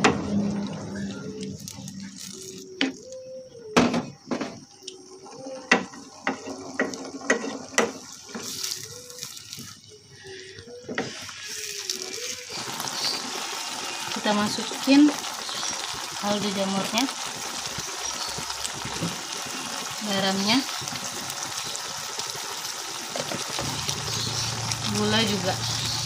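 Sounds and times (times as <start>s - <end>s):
food sizzling faintly: 0.0s - 26.0s.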